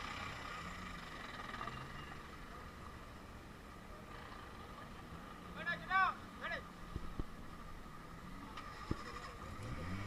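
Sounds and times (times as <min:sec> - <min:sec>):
jeep engines rumbling: 0:00.0 - 0:10.0.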